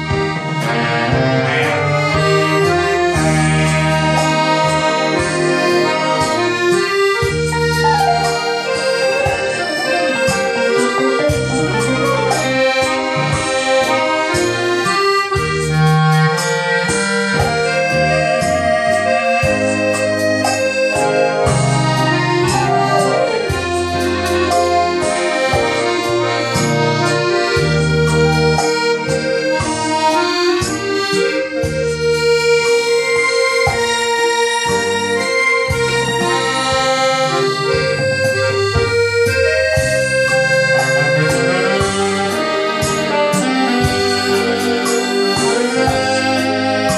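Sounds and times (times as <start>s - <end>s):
accordion: 0.0s - 46.9s
bass line: 0.0s - 46.9s
electronic organ: 0.0s - 46.9s.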